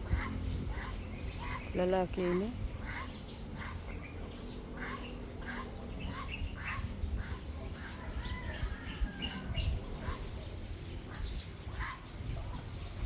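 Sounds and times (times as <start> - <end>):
low rumble: 0.0 - 13.0
poultry calling: 0.0 - 13.0.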